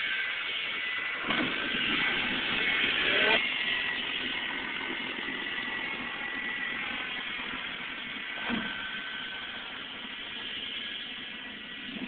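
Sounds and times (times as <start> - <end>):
jet engine roar with whine: 0.0 - 12.0.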